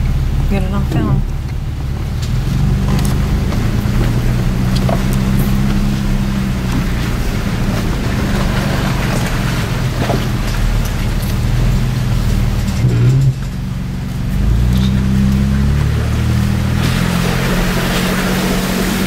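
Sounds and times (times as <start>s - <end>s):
vehicle engine running: 0.0s - 19.0s
water splashing and rushing: 0.0s - 19.0s.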